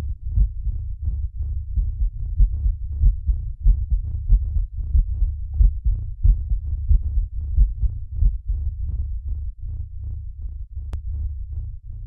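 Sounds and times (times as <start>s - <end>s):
deep bass pulsing beat: 0.0s - 12.0s.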